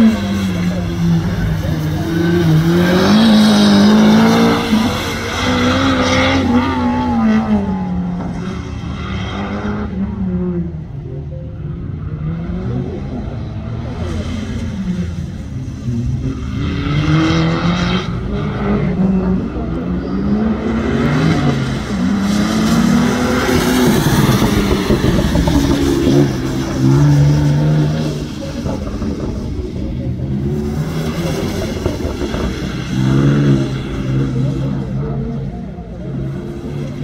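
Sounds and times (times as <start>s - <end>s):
car engine revving: 0.0s - 11.0s, 11.9s - 37.0s.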